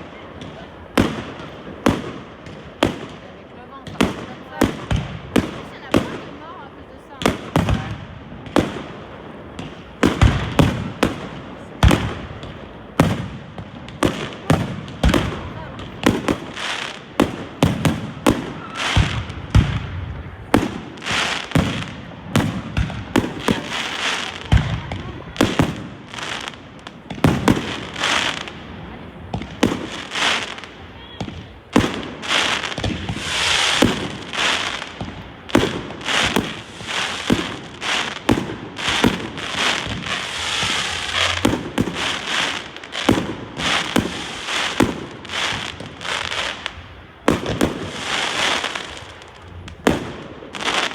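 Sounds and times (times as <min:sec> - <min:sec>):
fireworks bangs and booms: 0:00.0 - 0:50.9
fireworks crackling: 0:00.0 - 0:50.9.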